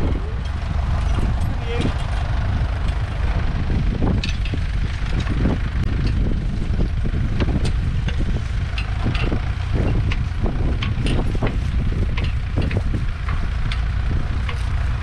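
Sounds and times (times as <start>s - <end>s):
wind rumble on microphone: 0.0s - 15.0s
plough and harness chains clinking: 0.1s - 3.4s, 4.1s - 15.0s.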